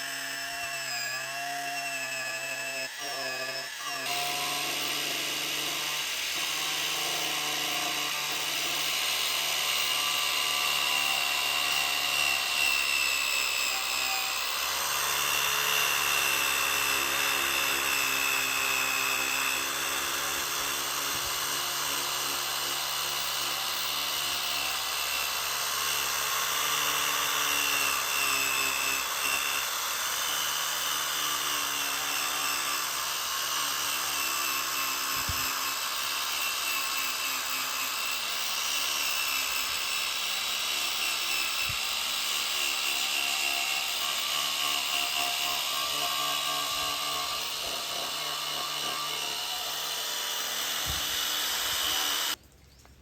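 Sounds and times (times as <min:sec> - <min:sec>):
power tool grinding: 0:00.0 - 0:52.4.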